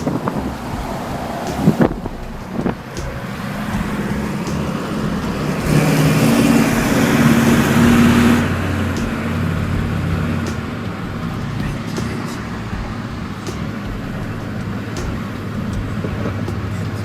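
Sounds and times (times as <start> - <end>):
road traffic engines: 0.0 - 17.0
tyre and wind hiss: 0.0 - 17.0.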